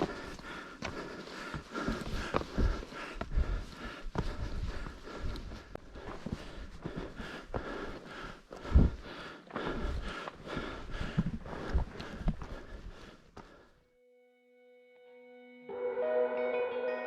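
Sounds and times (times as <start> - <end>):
person breathing hard: 0.0 - 13.8
uneven footsteps: 0.0 - 13.8.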